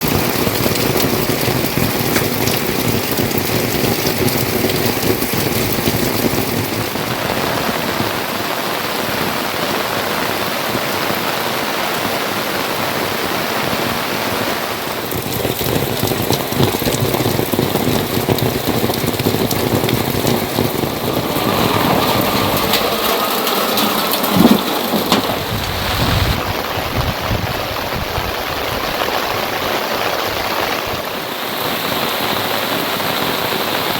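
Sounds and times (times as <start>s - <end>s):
heavy rain pattering: 0.0s - 33.9s.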